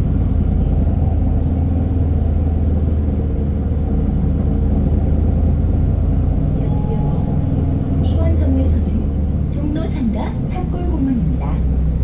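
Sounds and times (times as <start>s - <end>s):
bus engine drone inside cabin: 0.0s - 12.0s.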